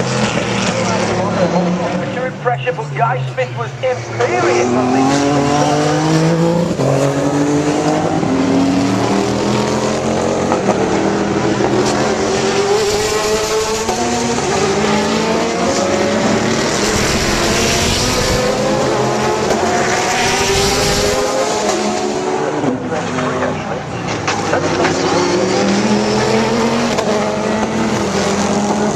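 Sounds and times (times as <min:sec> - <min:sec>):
race car engines accelerating: 0:00.0 - 0:28.9.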